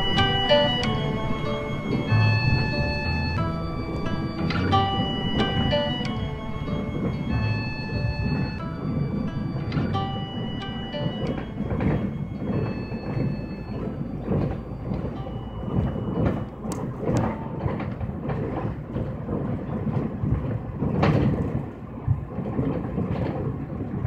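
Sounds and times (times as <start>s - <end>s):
rattles and knocks: 0.0s - 24.0s
vehicle ride rumble: 0.0s - 24.0s.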